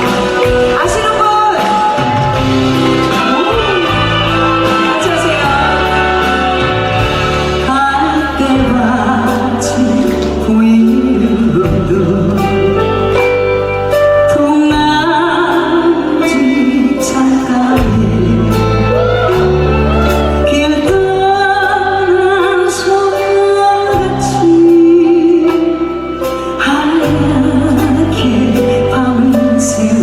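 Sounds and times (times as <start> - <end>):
instrumental accompaniment: 0.0 - 30.0
woman singing a slow ballad: 0.0 - 30.0.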